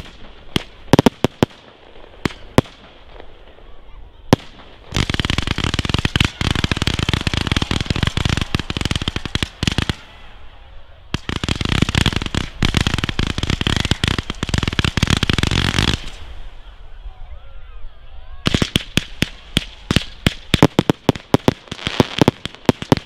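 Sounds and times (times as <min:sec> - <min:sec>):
rapid-fire firework shots: 0:00.0 - 0:03.3, 0:04.4 - 0:10.2, 0:11.1 - 0:16.4, 0:18.4 - 0:23.0.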